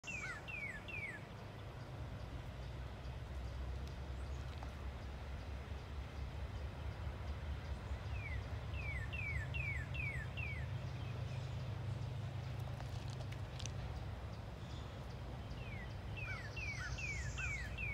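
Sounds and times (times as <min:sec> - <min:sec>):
distant diesel locomotive rumbling: 0:00.0 - 0:17.9.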